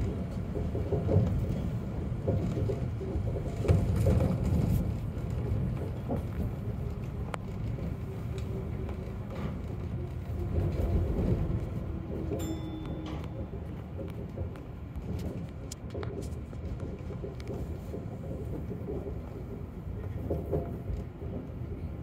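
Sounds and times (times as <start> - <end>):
faint clicks and knocks: 0.0 - 22.0
monorail rumbling: 0.0 - 22.0.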